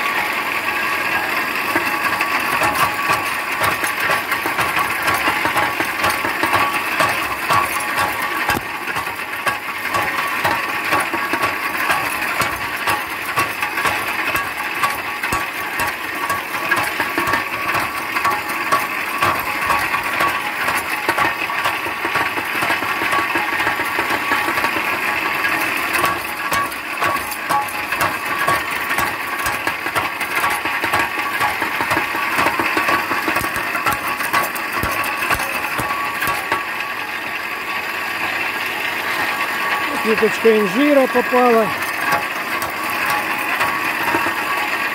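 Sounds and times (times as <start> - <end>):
chain drive whine: 0.0 - 44.9
shredder knives chopping clatter: 0.0 - 44.9.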